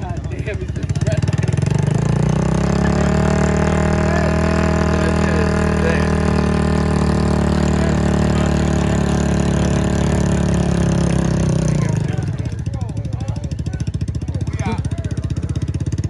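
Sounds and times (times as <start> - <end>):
small vehicle engine running: 0.0 - 16.0.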